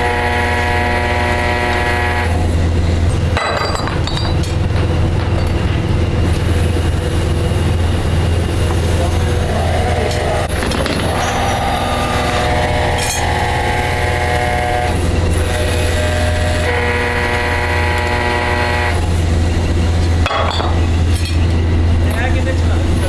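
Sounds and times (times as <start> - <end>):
heavy machinery humming: 0.0 - 23.0
multi-pitched whine: 0.0 - 23.0.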